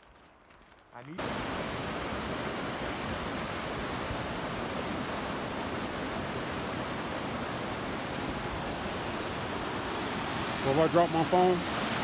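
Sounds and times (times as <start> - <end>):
creek rushing over rocks: 1.2 - 12.0.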